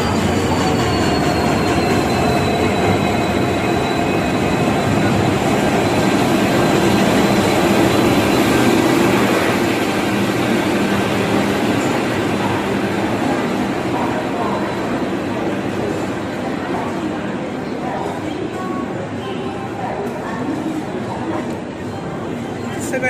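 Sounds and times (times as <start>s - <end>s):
train wheels rumbling and clattering: 0.0s - 19.1s.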